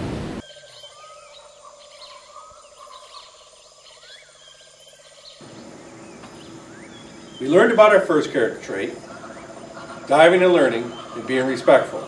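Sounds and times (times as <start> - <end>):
insects buzzing drone: 0.0 - 12.0
birds chirping and whistling: 0.4 - 12.0.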